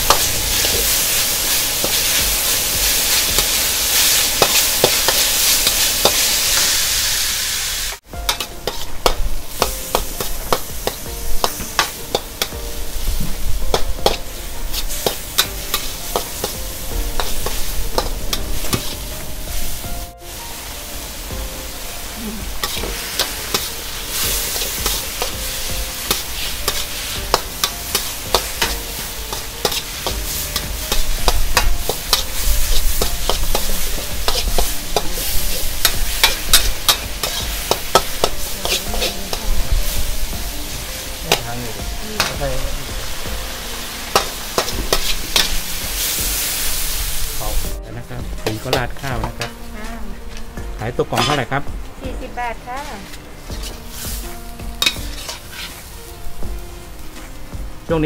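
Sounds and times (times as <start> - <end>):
ladle scraping and clanking on wok: 0.0 - 7.0, 8.3 - 19.8, 22.6 - 43.2, 43.8 - 47.7, 51.1 - 51.6, 53.0 - 56.0
stir-fry sizzling: 0.0 - 58.0.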